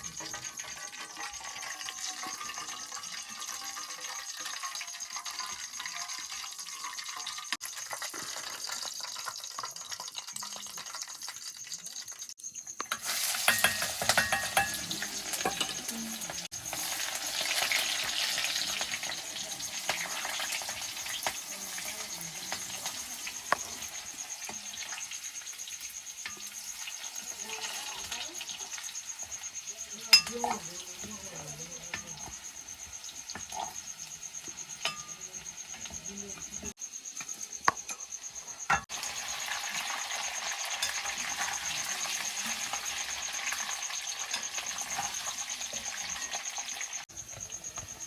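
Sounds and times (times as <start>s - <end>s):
pork sizzling in a pan: 0.0s - 48.0s.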